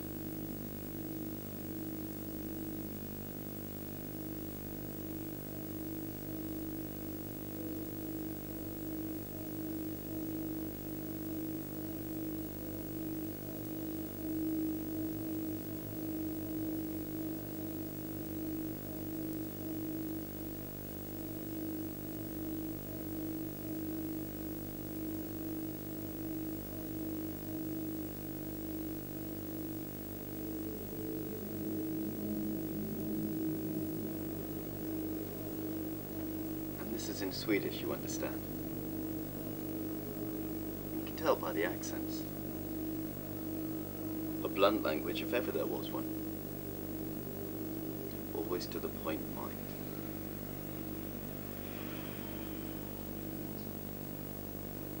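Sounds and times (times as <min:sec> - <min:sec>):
low drone of held tones: 0:00.0 - 0:55.0.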